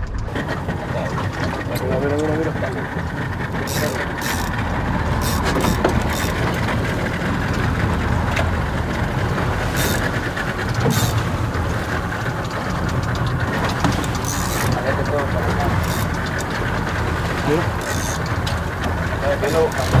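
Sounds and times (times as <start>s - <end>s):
outboard motor idling: 0.0s - 20.0s
water noise: 0.0s - 20.0s
wind: 0.0s - 20.0s.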